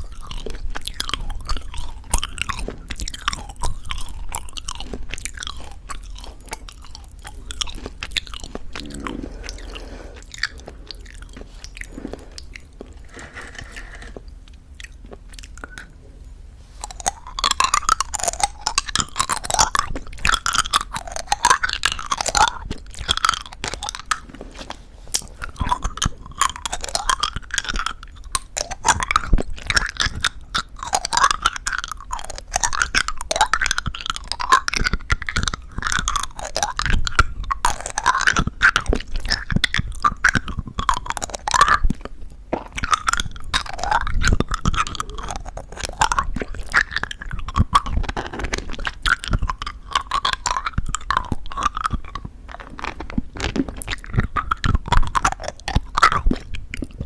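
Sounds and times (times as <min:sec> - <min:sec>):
candy shell crackling in teeth: 0:00.0 - 0:16.0, 0:16.8 - 0:57.0
wet sticky chewing sounds: 0:00.0 - 0:57.0.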